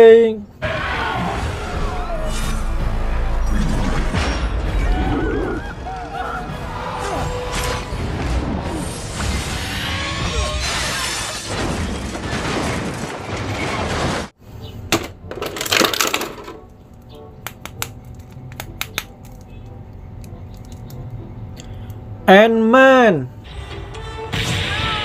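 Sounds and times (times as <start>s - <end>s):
movie soundtrack effects and music: 0.5s - 15.3s, 16.5s - 25.0s.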